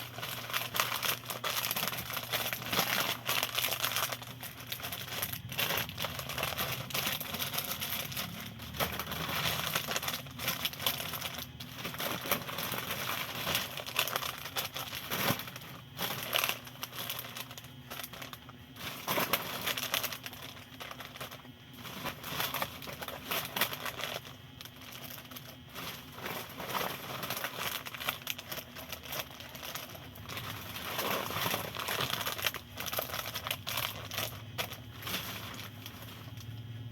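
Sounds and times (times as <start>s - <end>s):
plastic snack packet crinkling: 0.0s - 36.8s.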